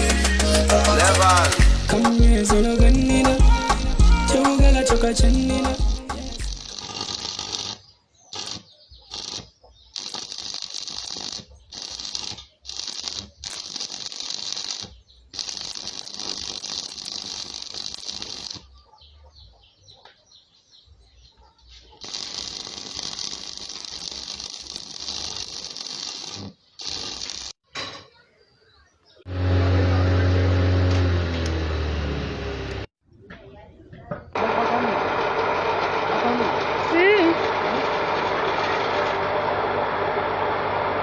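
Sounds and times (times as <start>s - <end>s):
grinder hissing: 0.0s - 18.7s, 22.0s - 27.6s, 29.3s - 32.9s, 34.4s - 40.0s.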